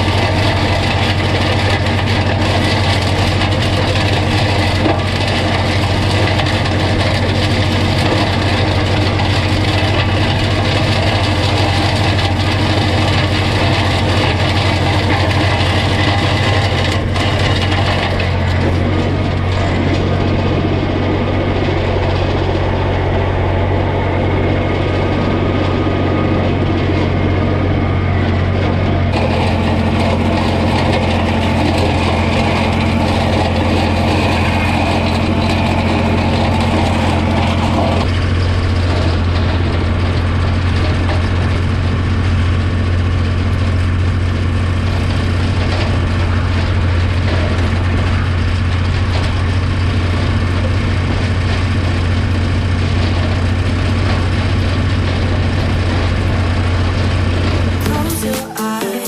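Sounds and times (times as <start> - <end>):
mechanical clatter: 0.0 - 58.0
tractor engine running: 0.0 - 59.0.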